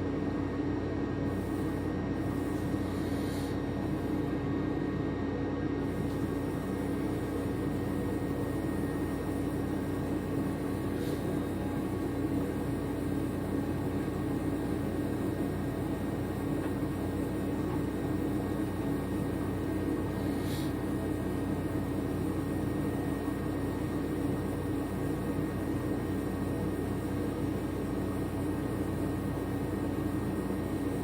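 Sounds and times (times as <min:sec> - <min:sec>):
machine droning hum: 0:00.0 - 0:31.0.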